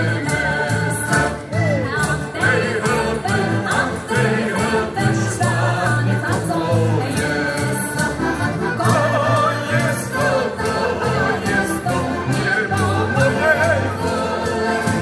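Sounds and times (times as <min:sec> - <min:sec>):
button accordions playing folk song: 0:00.0 - 0:15.0
people singing: 0:00.0 - 0:15.0.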